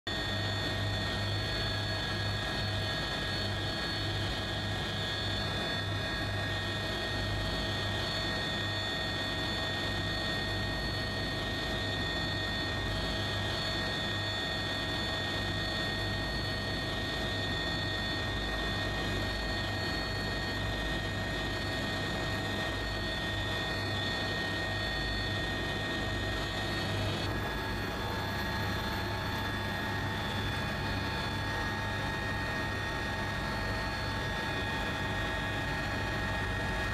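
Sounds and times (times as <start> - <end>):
helicopter rotor beat: 0.1 - 36.9
turbine whine: 0.1 - 36.9.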